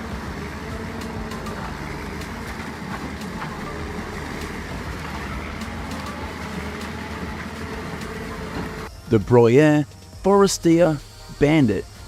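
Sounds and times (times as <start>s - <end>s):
wood shredder engine drone: 0.0s - 12.0s.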